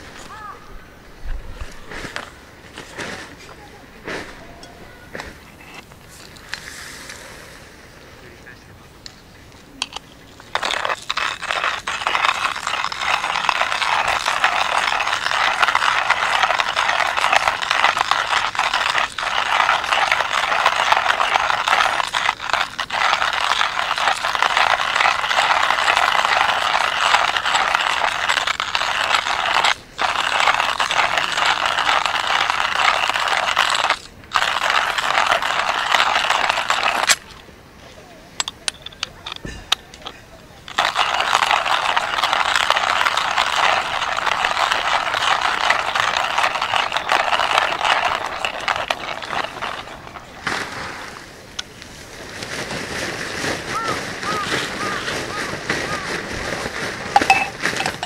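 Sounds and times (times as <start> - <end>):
hand coffee mill grinding beans: 1.6 - 6.7, 9.0 - 37.4, 38.4 - 58.0.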